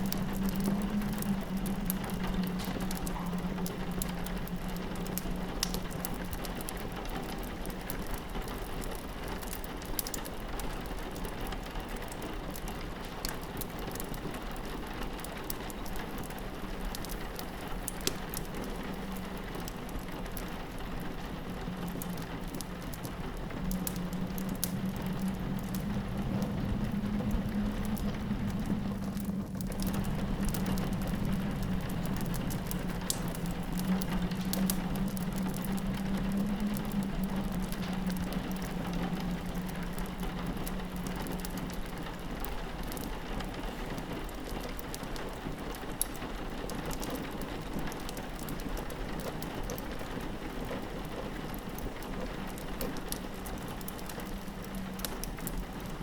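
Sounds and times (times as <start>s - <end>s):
low steady drone: 0.0s - 12.2s, 13.0s - 56.0s
fireplace crackling: 0.0s - 56.0s
rain pattering on window: 0.0s - 56.0s.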